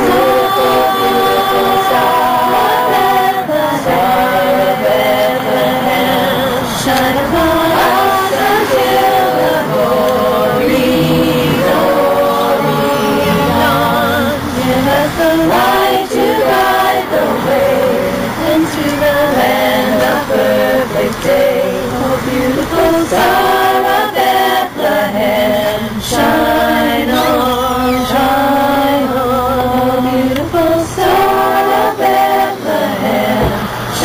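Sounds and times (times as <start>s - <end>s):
women's choir singing a cappella: 0.0s - 34.0s.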